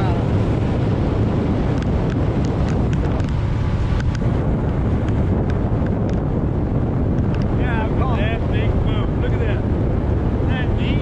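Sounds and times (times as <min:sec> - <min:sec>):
outboard motor running: 0:00.0 - 0:11.0
wind buffeting microphone: 0:00.0 - 0:11.0.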